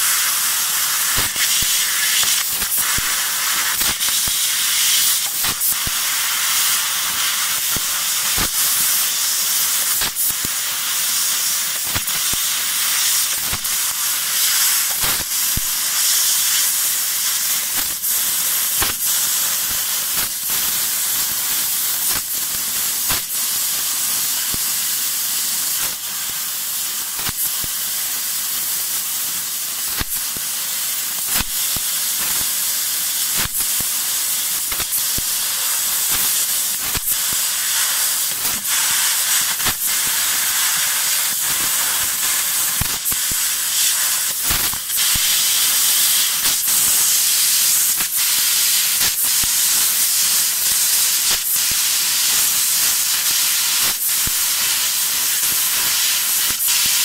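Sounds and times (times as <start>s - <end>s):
laser cutter gas hiss: 0.0s - 57.0s.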